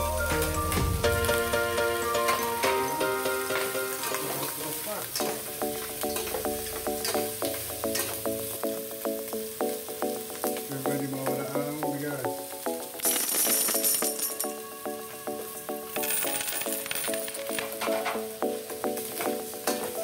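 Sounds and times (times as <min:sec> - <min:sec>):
chicken sizzling in oil: 0:00.0 - 0:16.0, 0:17.7 - 0:20.0
background music with beat: 0:00.0 - 0:20.0.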